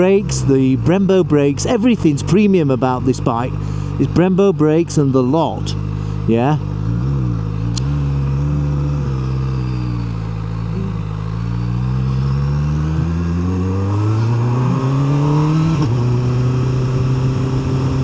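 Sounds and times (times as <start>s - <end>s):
gear change: 0.0s - 18.0s
motorcycle engine revving: 0.0s - 18.0s.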